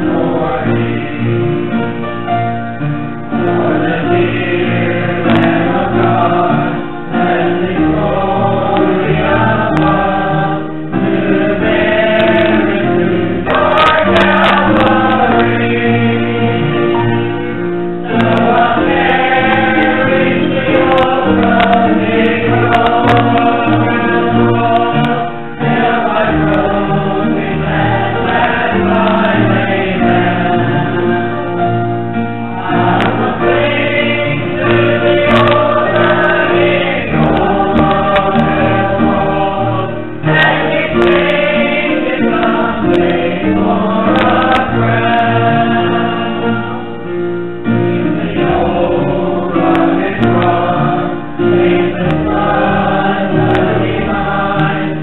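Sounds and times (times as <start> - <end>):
group singing a hymn: 0.0 - 55.0
instrumental accompaniment: 0.0 - 55.0.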